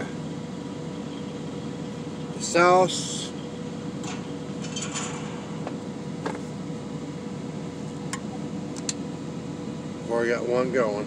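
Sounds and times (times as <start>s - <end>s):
mechanical hum and fan noise: 0.0s - 11.0s.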